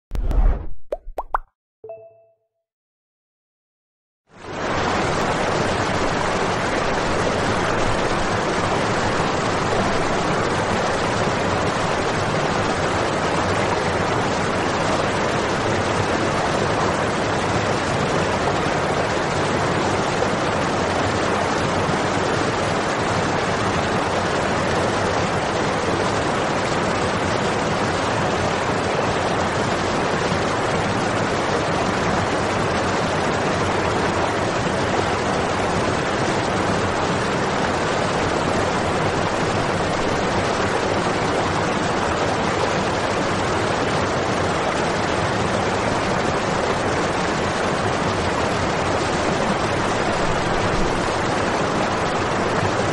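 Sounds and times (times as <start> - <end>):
fountain water splashing into basin: 4.4 - 52.9.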